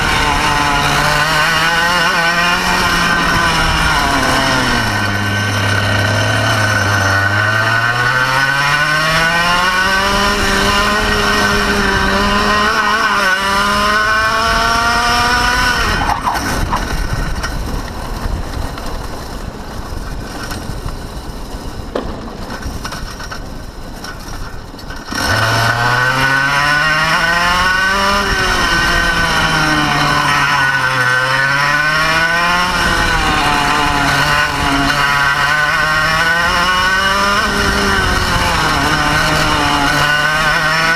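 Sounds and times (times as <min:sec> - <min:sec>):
kart engine revving: 0:00.0 - 0:40.9
wind: 0:00.0 - 0:40.9.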